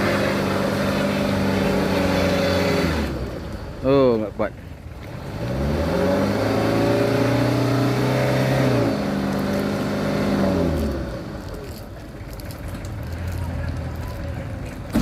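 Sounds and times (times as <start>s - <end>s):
diesel truck engine labouring: 0.0s - 15.0s.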